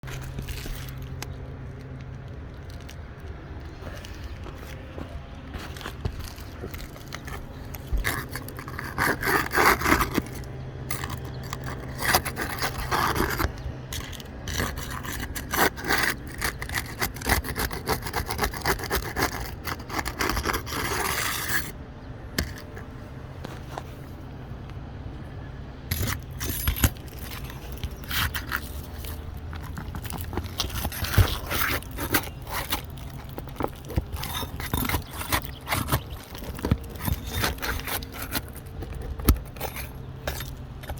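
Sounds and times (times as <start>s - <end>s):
scraping and rubbing: 0.0s - 21.8s, 22.4s - 24.2s, 25.9s - 40.9s.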